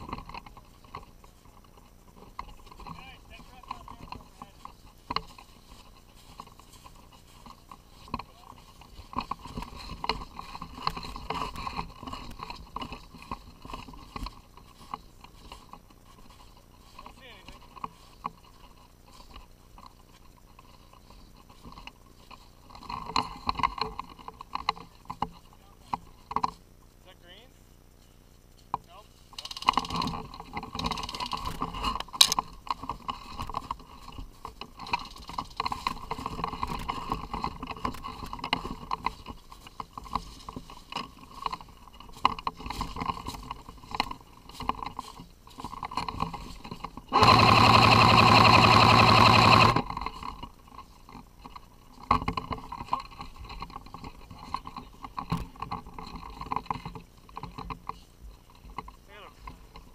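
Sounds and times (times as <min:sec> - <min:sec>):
rustling over dry leaves and snow: 0:00.0 - 0:59.9.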